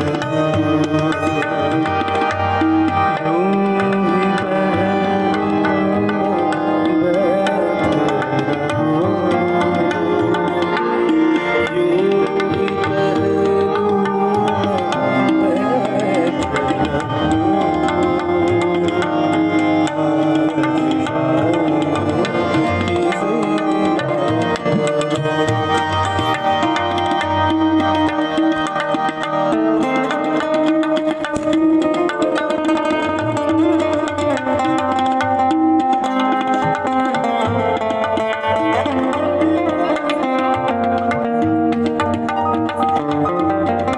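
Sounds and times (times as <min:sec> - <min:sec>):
harmonium chords: 0:00.0 - 0:43.9
tabla playing: 0:00.0 - 0:43.9.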